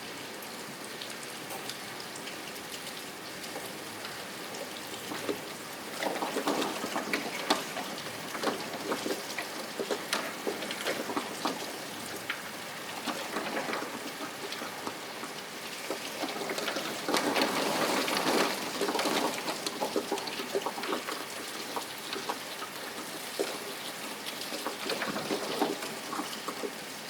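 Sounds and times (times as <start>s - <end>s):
rain falling: 0.0s - 27.0s
raindrops ticking on a surface: 0.1s - 27.0s.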